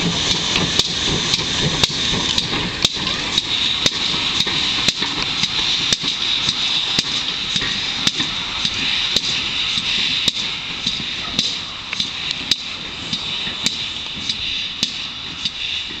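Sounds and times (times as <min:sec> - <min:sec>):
steam locomotive exhaust beating: 0:00.0 - 0:16.0.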